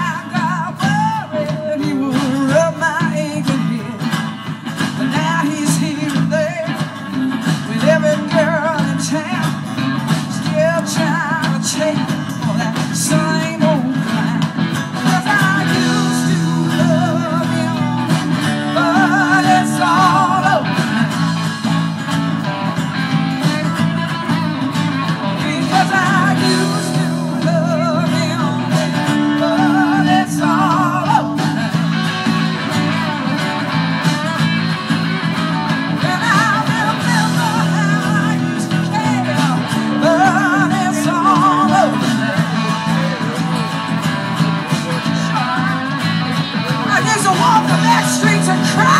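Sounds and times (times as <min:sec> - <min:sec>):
person singing with vibrato: 0:00.0 - 0:22.5, 0:23.4 - 0:33.5, 0:35.6 - 0:48.9
bass guitar: 0:00.0 - 0:48.9
electric guitar: 0:00.0 - 0:48.9.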